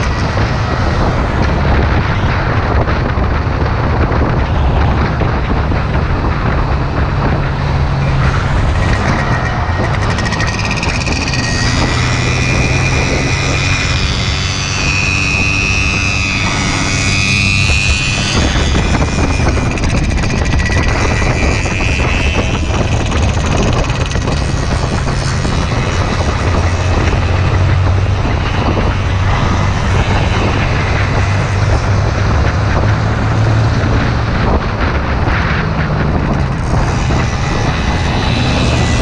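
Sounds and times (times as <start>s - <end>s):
motorcycle engine running: 0.0s - 39.0s
wind rush on microphone: 0.0s - 39.0s.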